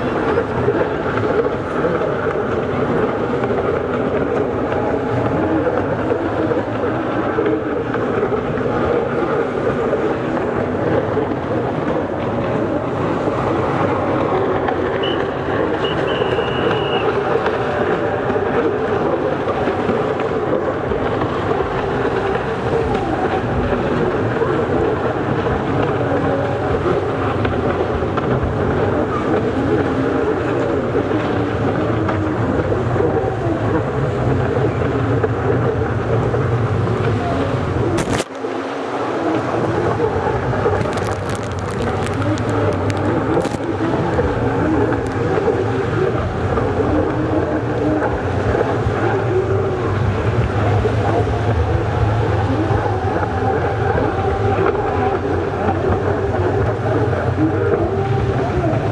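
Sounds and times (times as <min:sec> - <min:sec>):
jet ski engines racing: 0:00.0 - 0:58.9.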